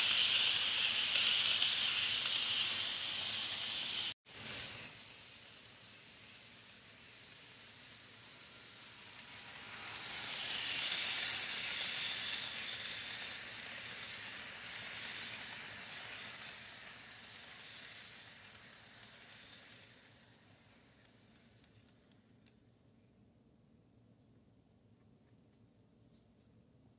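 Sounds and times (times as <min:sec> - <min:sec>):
model train running on track: 0:00.0 - 0:22.7.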